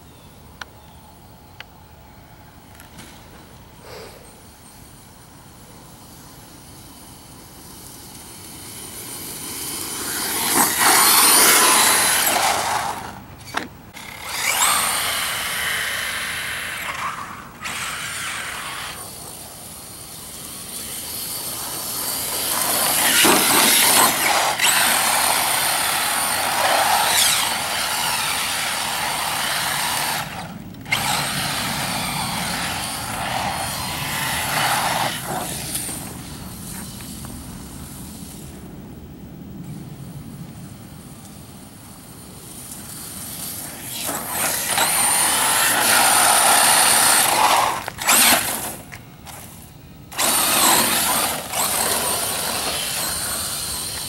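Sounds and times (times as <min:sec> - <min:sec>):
electric motor and drivetrain whine: 0:06.5 - 0:38.4, 0:42.5 - 0:54.0
tyres on dirt: 0:06.5 - 0:38.7, 0:42.1 - 0:54.0.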